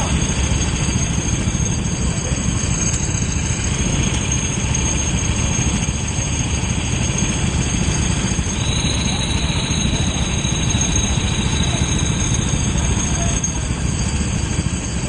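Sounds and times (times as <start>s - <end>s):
kart engine running: 0.0s - 15.0s.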